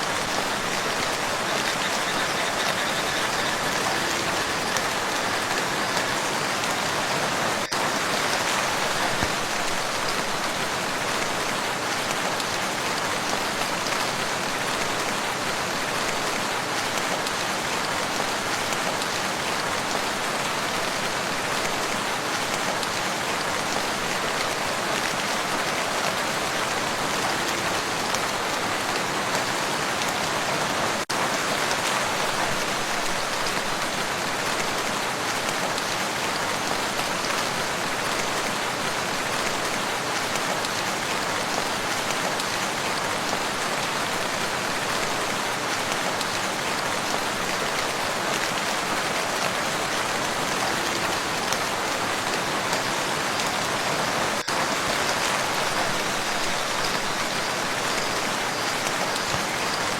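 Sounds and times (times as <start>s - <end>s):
heavy rain on lake: 0.0s - 59.9s.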